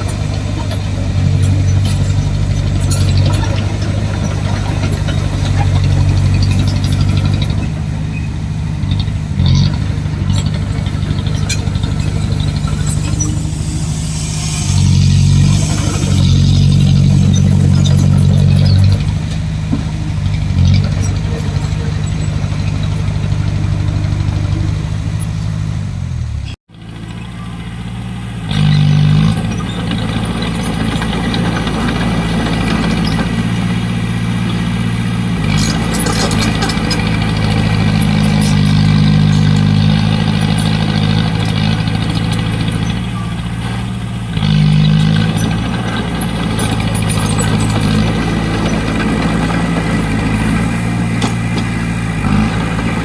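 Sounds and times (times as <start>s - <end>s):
diesel machinery engines running: 0.0s - 53.0s.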